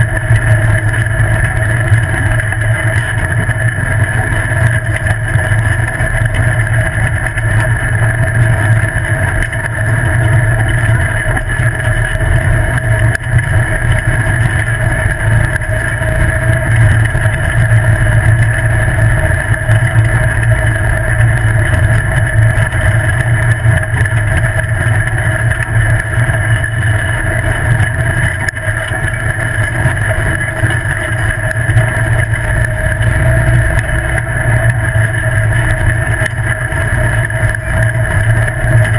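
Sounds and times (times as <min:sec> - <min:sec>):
buggy engine running: 0:00.0 - 0:38.9
heavy ride rumble: 0:00.0 - 0:38.9.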